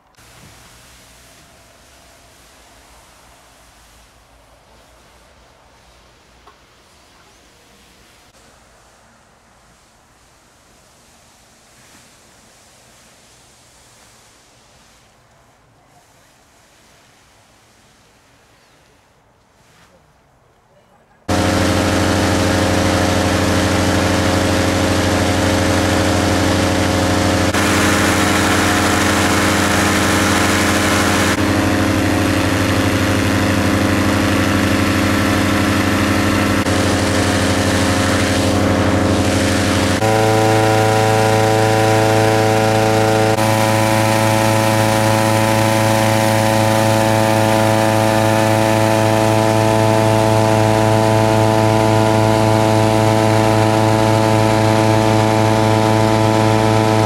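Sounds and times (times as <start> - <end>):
petrol engine inflator fan: 0.0 - 18.2, 21.3 - 57.0.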